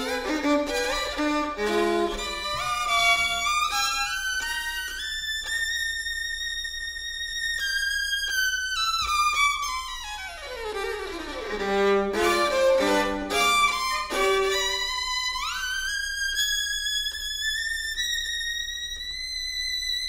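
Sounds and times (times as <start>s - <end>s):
solo violin: 0.0s - 20.0s.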